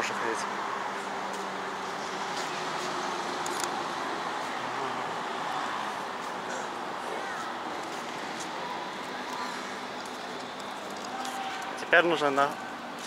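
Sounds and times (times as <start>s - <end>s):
city traffic hiss: 0.0s - 13.0s.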